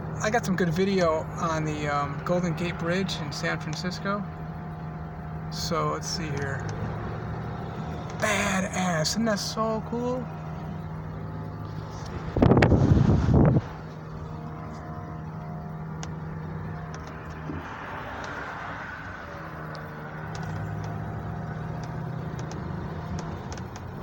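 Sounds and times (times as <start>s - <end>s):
car engine hum: 0.0s - 24.0s
tyre and road noise: 0.0s - 24.0s.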